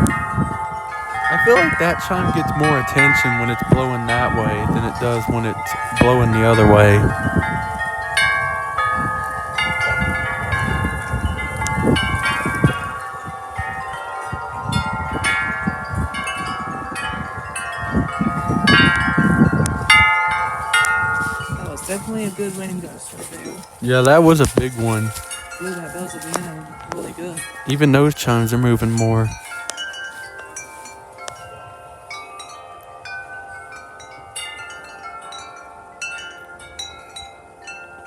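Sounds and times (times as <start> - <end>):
low rumble of wind: 0.0 - 38.0
metal wind chimes ringing: 0.0 - 38.0.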